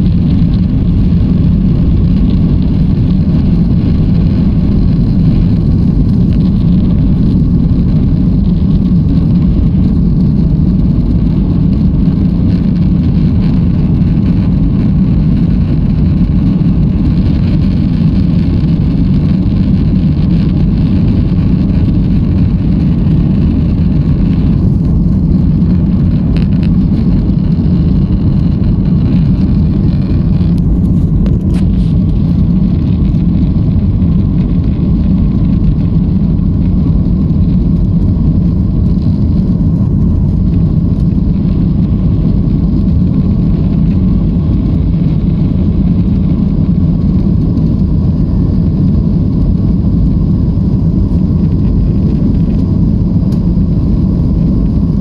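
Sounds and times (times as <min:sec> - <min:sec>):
airliner cabin engine noise: 0:00.0 - 0:55.0.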